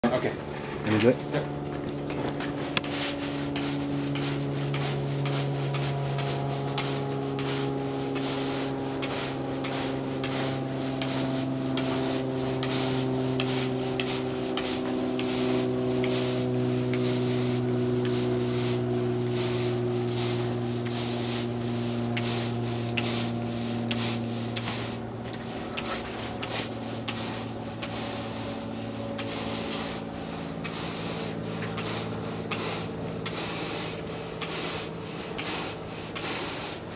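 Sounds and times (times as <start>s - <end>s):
steady low hum: 0.0s - 36.9s
broom scraping across turf: 2.6s - 36.9s.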